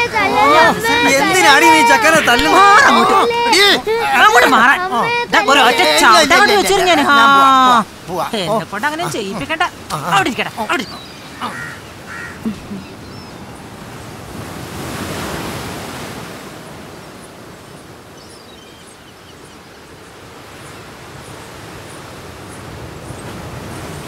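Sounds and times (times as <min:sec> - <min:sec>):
sea surf washing ashore: 0:00.0 - 0:24.0.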